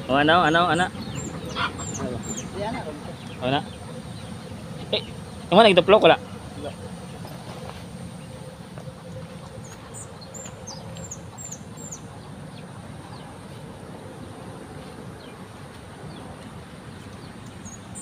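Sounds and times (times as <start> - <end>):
bird chirping: 0.0 - 7.5, 8.1 - 13.5, 15.2 - 18.0
faint high insect drone: 0.0 - 18.0.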